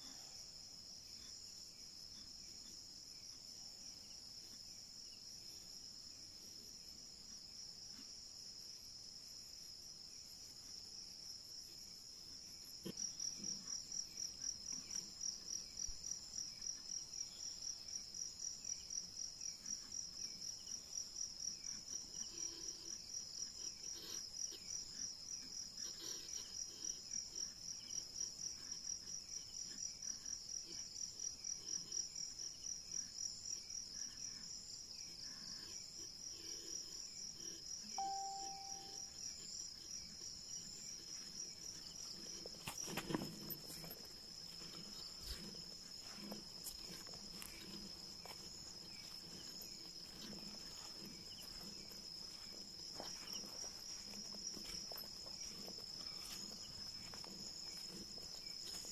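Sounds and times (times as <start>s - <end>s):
night insects chirring: 0.2s - 58.9s.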